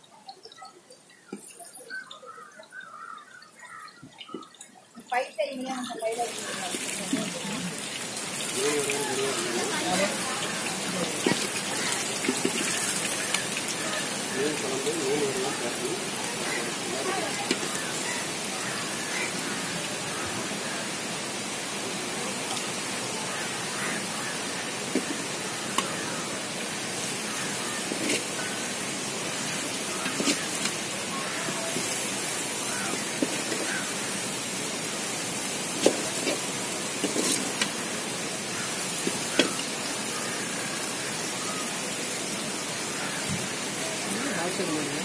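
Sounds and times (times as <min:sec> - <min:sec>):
fish sizzling in hot oil: 0:02.9 - 0:21.7, 0:22.4 - 0:45.0.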